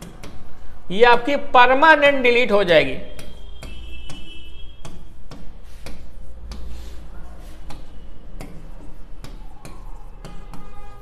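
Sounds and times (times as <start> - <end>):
marker pen tapping and scraping: 0.0 - 1.3, 2.6 - 11.0.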